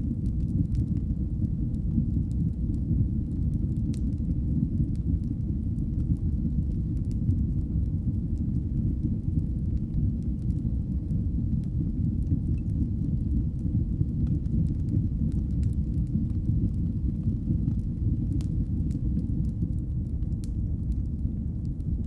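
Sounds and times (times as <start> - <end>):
fire crackling: 0.0 - 22.0
wood fire rumbling: 0.0 - 22.0.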